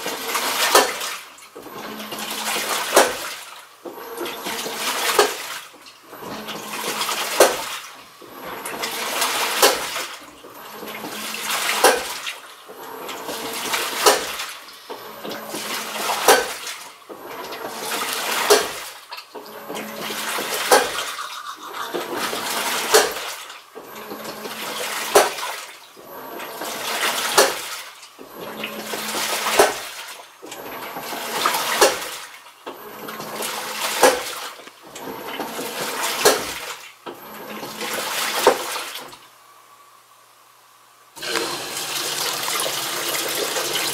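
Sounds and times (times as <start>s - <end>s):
washing machine churning laundry: 0.0s - 39.4s, 41.2s - 43.9s.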